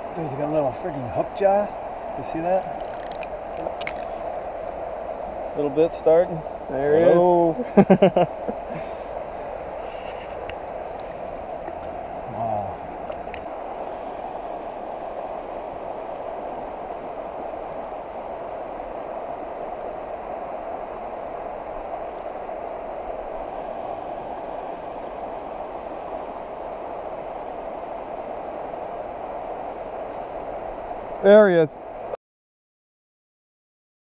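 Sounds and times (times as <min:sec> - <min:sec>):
fast-flowing river rushing: 0:00.0 - 0:05.6, 0:08.3 - 0:31.2.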